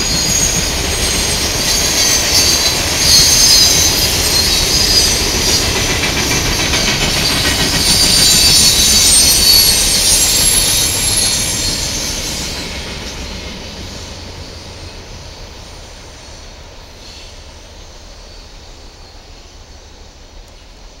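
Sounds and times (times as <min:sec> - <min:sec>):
train wheels hissing on rails: 0:00.0 - 0:21.0.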